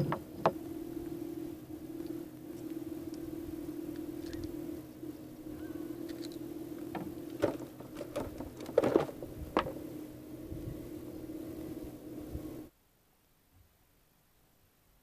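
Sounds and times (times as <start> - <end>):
low motor drone: 0.0 - 12.7.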